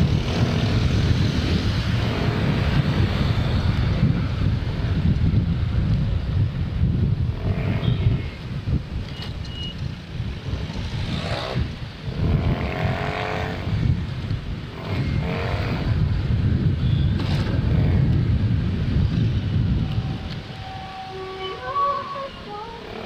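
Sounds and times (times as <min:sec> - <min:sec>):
nearby motorbike engines: 0:00.0 - 0:05.6, 0:07.1 - 0:23.0
motorcycle road noise: 0:00.0 - 0:23.0
wind buffeting microphone: 0:00.0 - 0:23.0.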